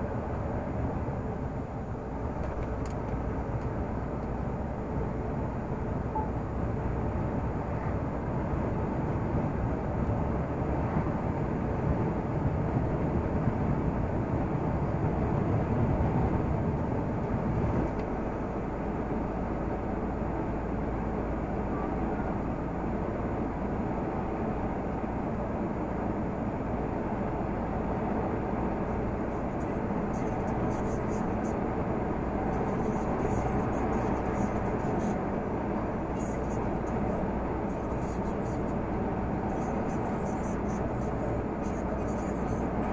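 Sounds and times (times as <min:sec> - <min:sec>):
road noise: 0:00.0 - 0:42.9
truck diesel engine running: 0:00.0 - 0:42.9.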